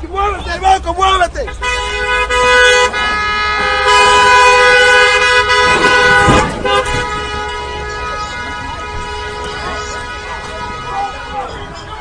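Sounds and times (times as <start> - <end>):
car horn two-note tone: 1.5 - 12.0.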